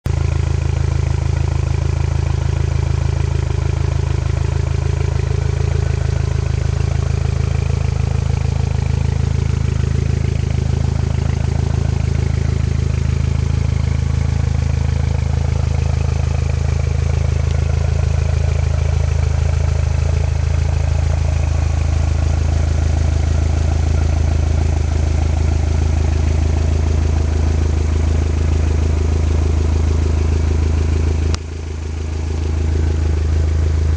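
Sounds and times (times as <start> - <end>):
car engine idling exhaust drone: 0.0 - 33.9.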